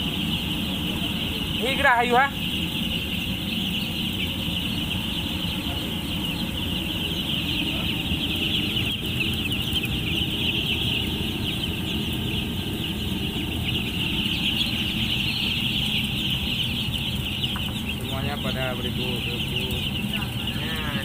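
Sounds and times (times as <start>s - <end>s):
chicks peeping: 0.0s - 21.0s
steady low rumble: 0.0s - 21.0s.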